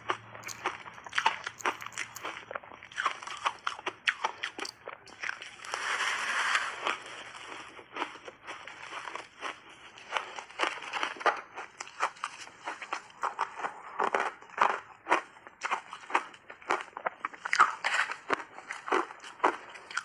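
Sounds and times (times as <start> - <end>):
crunching and chewing ice: 0.0 - 20.0.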